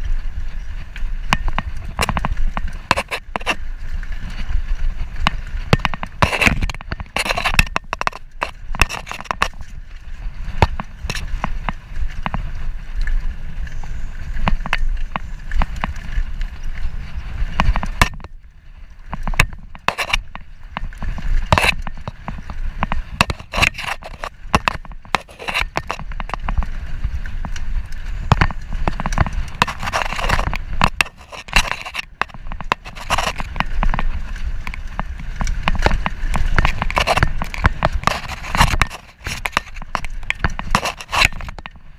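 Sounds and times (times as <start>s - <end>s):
bike clicking and rattling: 0.0s - 41.9s
bike tyres rumbling on dirt: 0.0s - 41.9s
wind on microphone: 0.0s - 41.9s.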